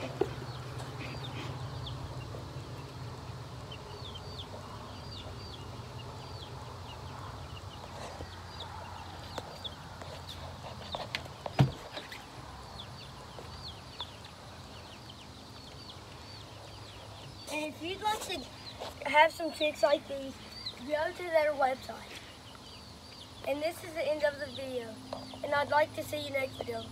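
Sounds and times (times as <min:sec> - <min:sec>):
baby chicks peeping: 0:00.0 - 0:26.9.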